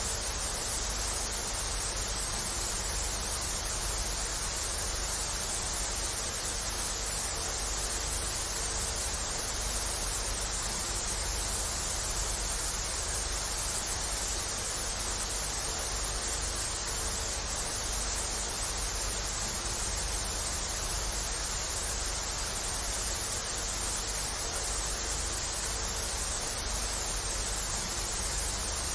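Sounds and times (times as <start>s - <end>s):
television static hiss: 0.0s - 28.9s.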